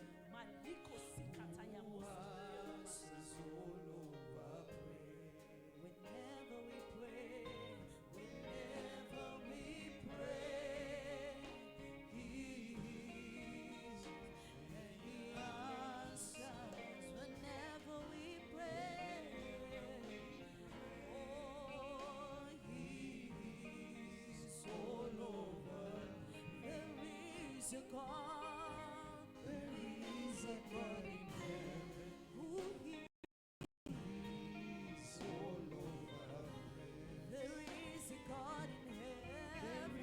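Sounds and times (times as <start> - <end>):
gospel music with singing voices: 0.0 - 33.1, 33.9 - 40.0.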